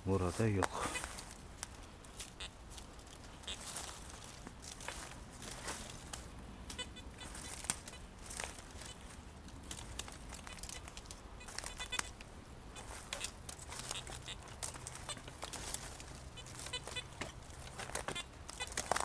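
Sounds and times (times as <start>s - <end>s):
dry leaves and twigs rustling: 0.0s - 19.0s.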